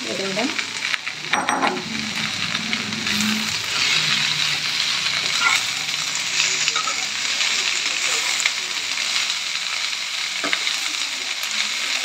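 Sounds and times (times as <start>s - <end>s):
leaves sizzling in oil: 0.0s - 12.0s.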